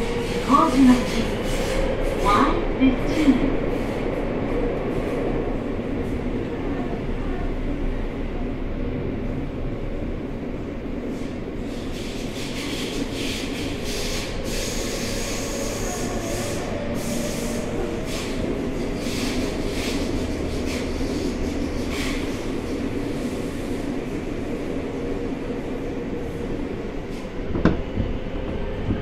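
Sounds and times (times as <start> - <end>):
hissing wheel and rail noise: 0.0 - 6.6, 10.2 - 29.0
wheels rumbling on rail: 0.0 - 29.0.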